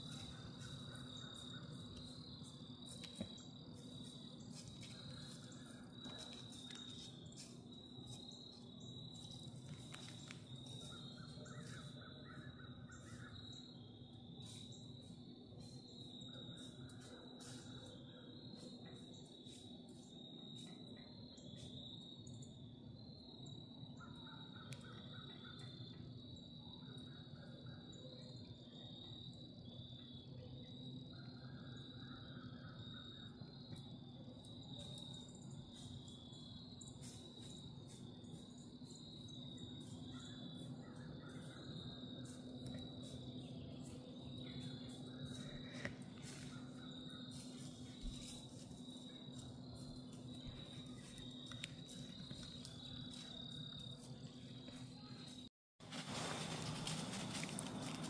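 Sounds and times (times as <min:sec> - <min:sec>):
crickets chirping: 0:00.0 - 0:58.0
lower insect trill: 0:00.0 - 0:58.0.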